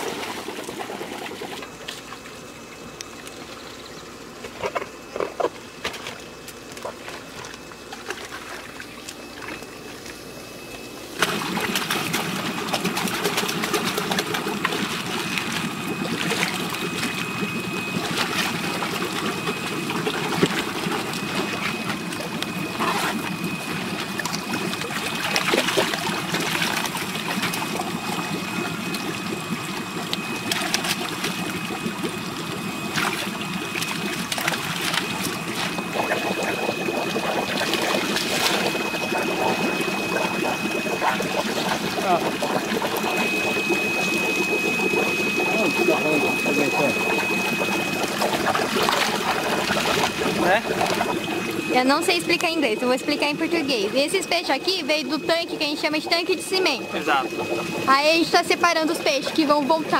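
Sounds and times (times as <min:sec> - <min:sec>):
water splashing and sloshing: 0:00.0 - 0:59.9
water trickling into tank: 0:11.2 - 0:59.9.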